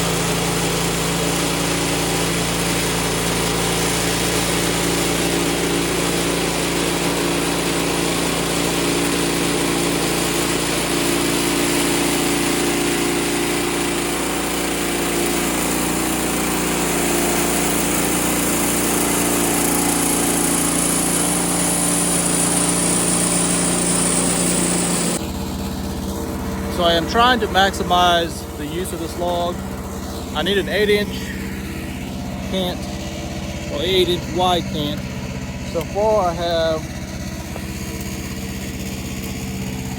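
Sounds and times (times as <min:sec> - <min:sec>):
bandsaw mill engine under load: 0:00.0 - 0:39.9.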